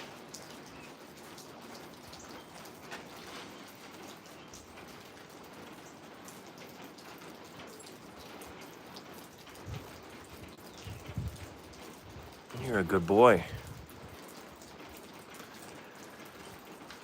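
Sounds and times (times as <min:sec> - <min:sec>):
raindrops pattering on surfaces: 0:00.0 - 0:17.0
steady rain falling: 0:00.0 - 0:17.0.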